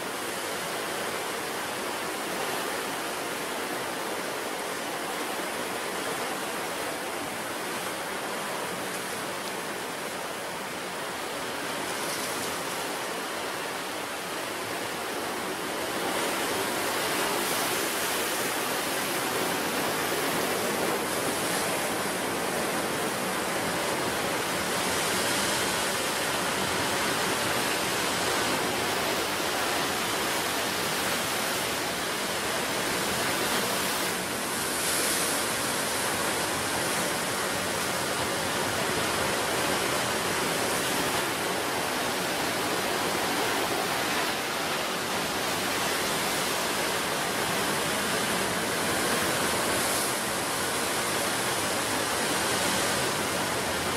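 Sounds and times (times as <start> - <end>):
waves breaking on shore: 0.0 - 53.9.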